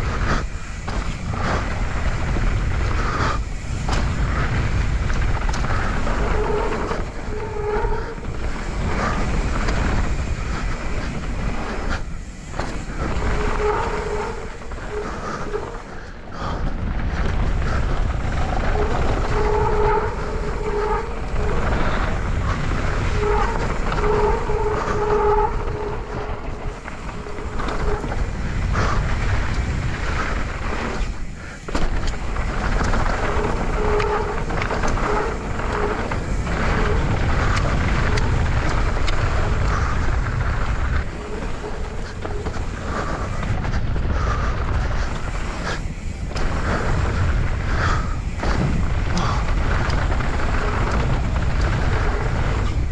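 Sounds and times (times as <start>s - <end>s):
steady buzzing tone: 0.0s - 52.9s
tyres rolling over dirt: 0.0s - 52.9s
wind on microphone: 0.0s - 52.9s.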